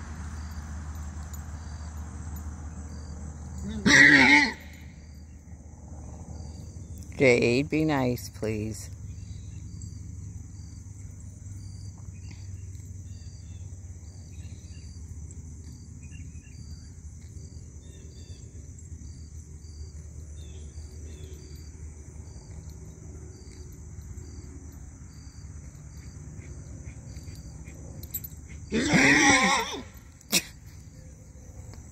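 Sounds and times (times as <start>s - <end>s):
cricket chirp: 0.0s - 31.9s
crickets trilling: 0.0s - 31.9s.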